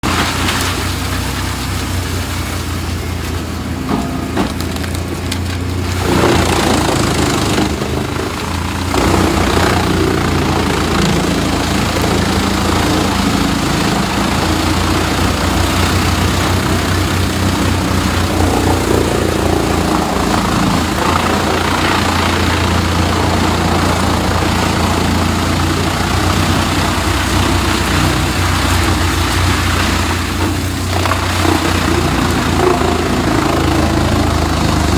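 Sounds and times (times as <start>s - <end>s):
wood chipper engine droning: 0.0s - 34.9s
wood crunching and splintering: 0.0s - 34.9s.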